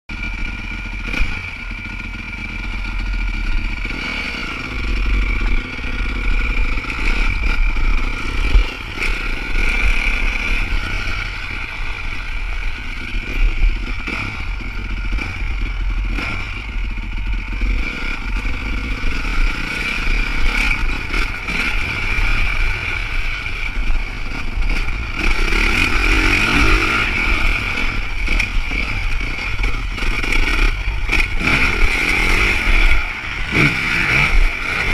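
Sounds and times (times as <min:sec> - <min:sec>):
motocross bike engine revving: 0:00.1 - 0:34.9.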